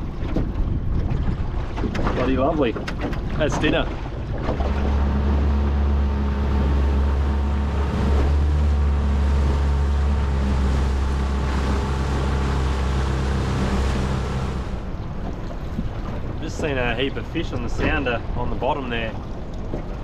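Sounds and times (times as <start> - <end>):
outboard motor droning: 0.0 - 20.0
water rushing past hull: 0.0 - 20.0.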